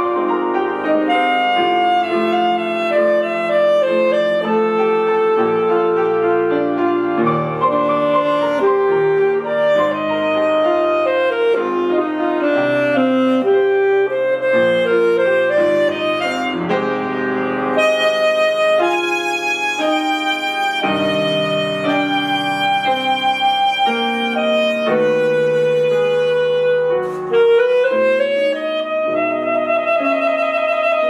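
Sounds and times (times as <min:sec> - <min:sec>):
alto saxophone melody: 0:00.0 - 0:31.0
grand piano accompaniment: 0:00.0 - 0:31.0.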